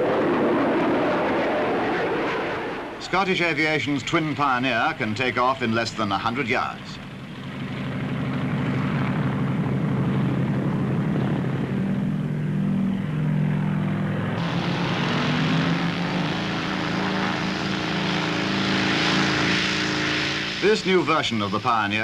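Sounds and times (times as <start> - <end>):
propeller aircraft engines running: 0.0 - 22.0.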